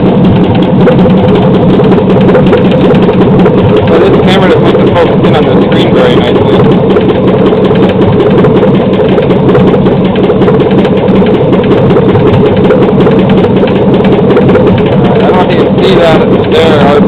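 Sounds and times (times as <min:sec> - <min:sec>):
engine idling: 0:00.0 - 0:17.0
fast even engine ticking: 0:00.0 - 0:17.0.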